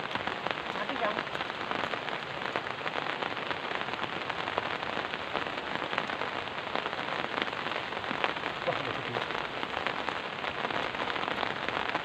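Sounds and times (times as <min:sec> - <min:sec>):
raindrops ticking close by: 0:00.0 - 0:12.0
steady rain falling: 0:00.0 - 0:12.0.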